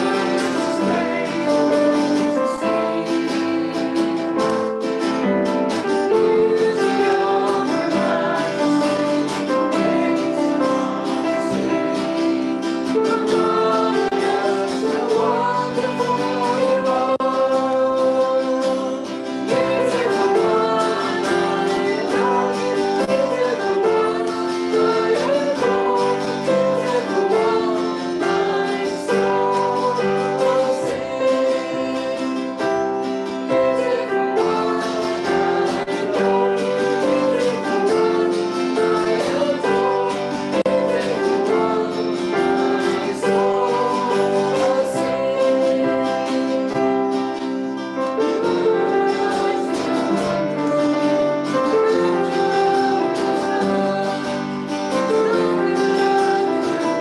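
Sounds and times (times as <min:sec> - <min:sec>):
guitar: 0:00.0 - 0:57.0
piano: 0:00.0 - 0:57.0
voices singing worship song: 0:00.0 - 0:57.0.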